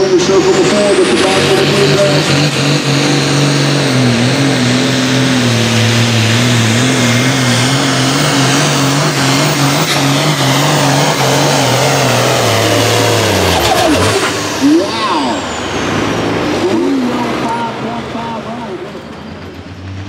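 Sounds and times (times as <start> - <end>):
tractor engine at high revs: 0.0 - 20.0.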